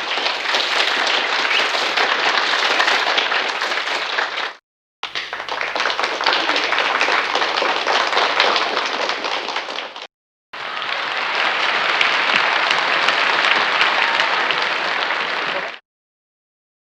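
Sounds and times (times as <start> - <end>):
audience applause: 0.4 - 15.8.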